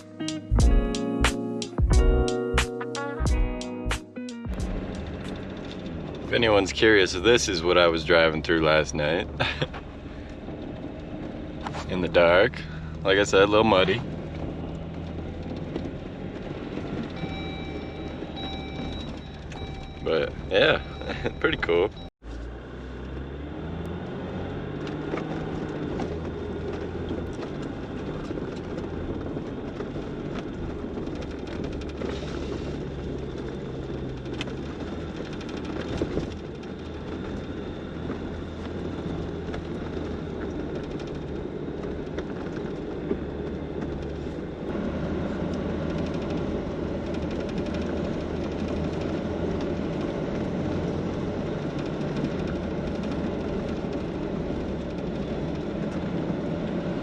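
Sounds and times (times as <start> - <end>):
car engine hum: 0.0 - 57.0
tyre and road noise: 0.0 - 57.0.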